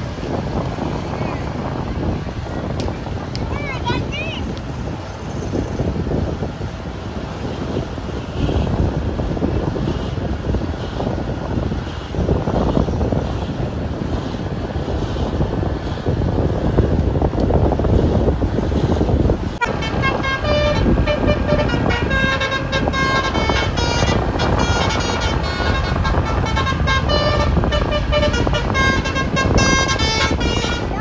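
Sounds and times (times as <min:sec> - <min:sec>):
road traffic rumbling: 0:00.0 - 0:31.0.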